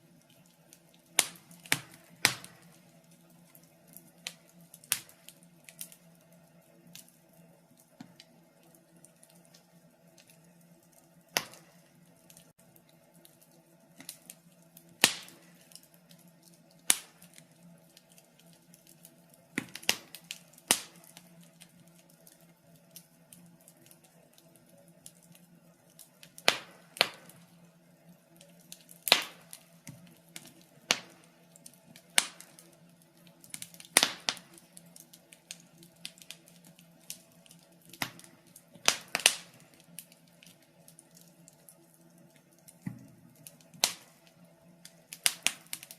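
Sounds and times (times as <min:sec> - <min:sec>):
faint steady hum: 0:00.0 - 0:45.9
wood fire crackling: 0:00.0 - 0:45.9.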